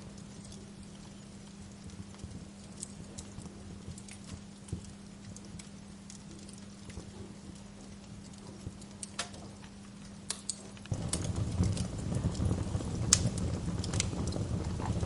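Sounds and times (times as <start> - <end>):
low rumble of fire: 0.0 - 15.0
wood fire crackling: 0.0 - 15.0.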